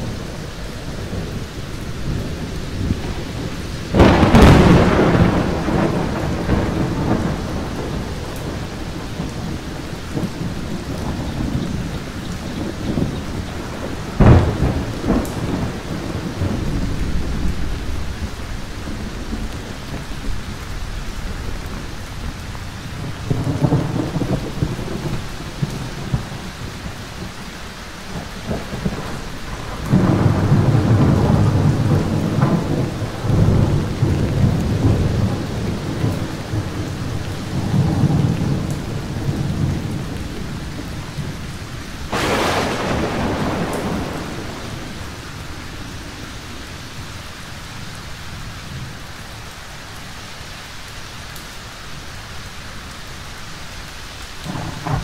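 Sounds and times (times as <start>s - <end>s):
thunder rumbling and cracking: 0.0s - 49.0s, 54.2s - 55.0s
heavy rain: 0.0s - 55.0s.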